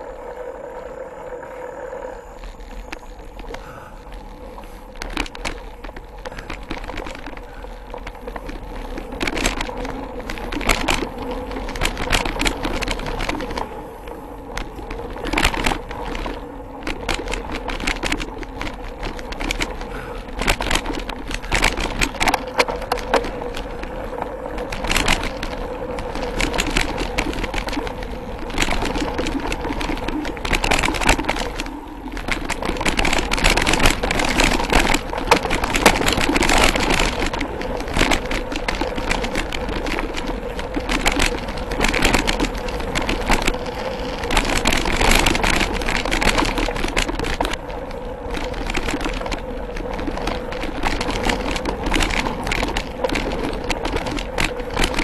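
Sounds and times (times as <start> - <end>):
bike rattling over bumps: 0.0 - 55.0
bike tyres rolling on dirt: 0.0 - 55.0.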